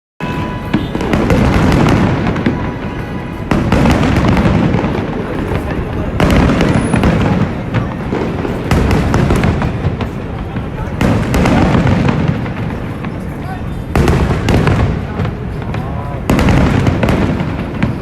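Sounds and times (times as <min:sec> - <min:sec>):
fireworks booming: 0:00.2 - 0:18.0
fireworks crackling: 0:00.2 - 0:18.0.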